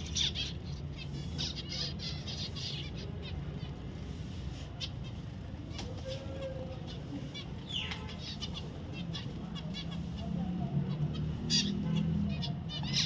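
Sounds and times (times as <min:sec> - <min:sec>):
finch chirping: 0:00.0 - 0:13.0.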